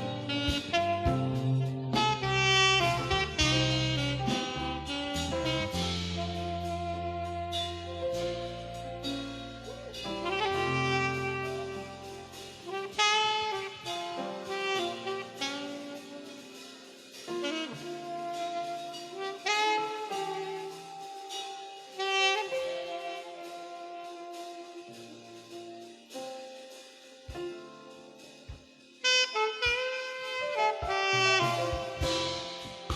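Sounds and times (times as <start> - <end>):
saxophone melody: 0.0 - 27.7, 29.0 - 32.9.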